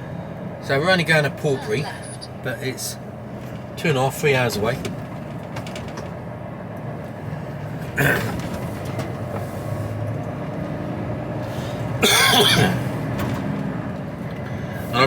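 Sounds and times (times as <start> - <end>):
lorry engine hum in cab: 0.0 - 15.0.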